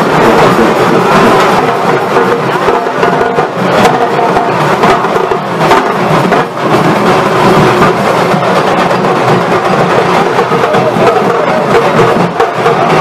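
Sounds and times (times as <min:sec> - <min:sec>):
crowd din: 0:00.0 - 0:13.0
loud drumming: 0:00.0 - 0:13.0.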